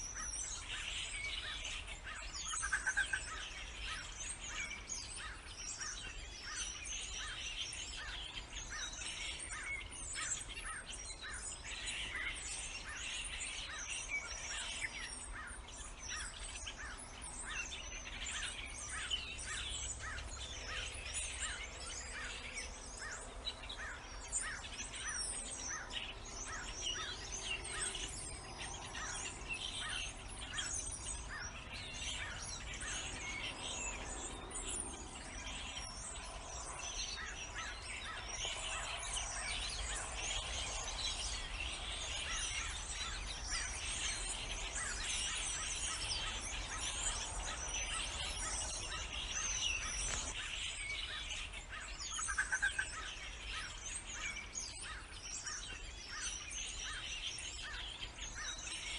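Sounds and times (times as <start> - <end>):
birds chirping and chattering: 0.0 - 58.9.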